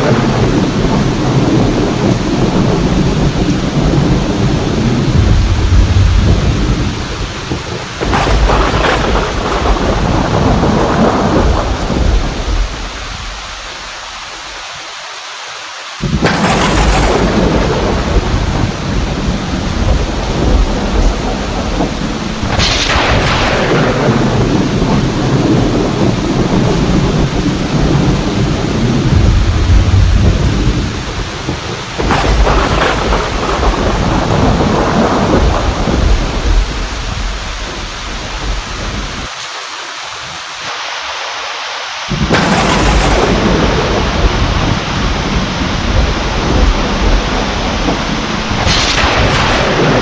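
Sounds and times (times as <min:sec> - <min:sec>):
thunderclaps with low rumbles: 0:00.0 - 0:14.6, 0:16.0 - 0:39.4, 0:42.1 - 0:50.0
heavy rain hiss: 0:00.0 - 0:50.0.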